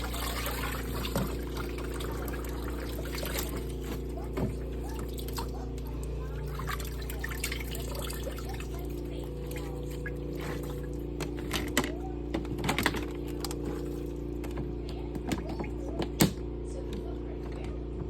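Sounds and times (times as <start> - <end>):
water sloshing and splashing: 0.0 - 16.2
washing machine motor hum: 0.0 - 18.0.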